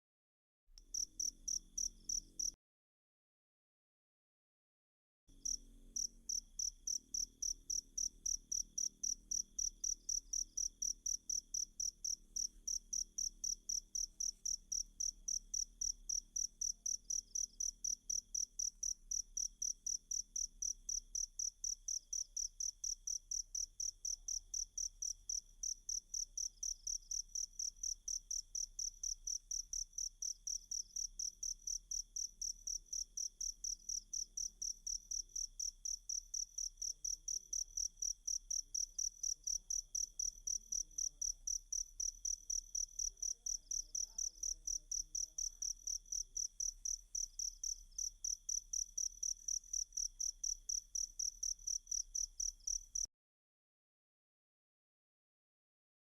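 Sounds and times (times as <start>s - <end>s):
cricket chirping: 0.9s - 2.6s, 5.3s - 53.1s.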